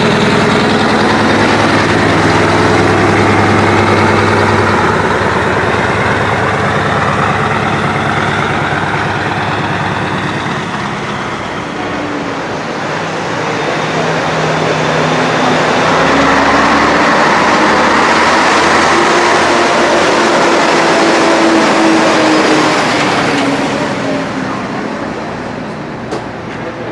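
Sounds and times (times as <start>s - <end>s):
truck diesel engines passing: 0.0s - 26.9s.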